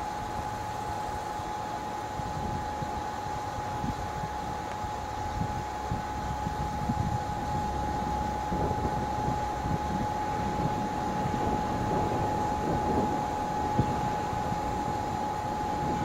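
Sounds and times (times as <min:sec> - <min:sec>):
high-pitched whine: 0:00.0 - 0:16.0
train rumble: 0:00.0 - 0:16.0.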